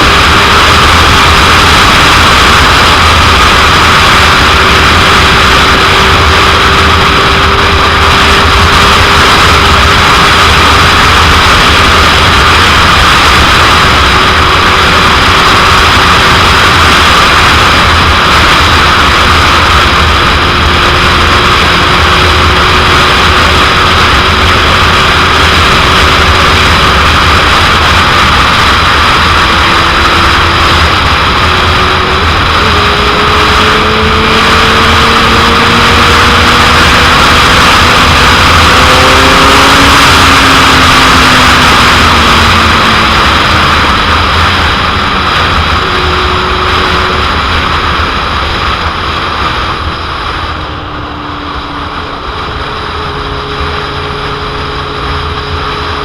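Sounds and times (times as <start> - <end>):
motorcycle engine steady note: 0.0 - 56.0.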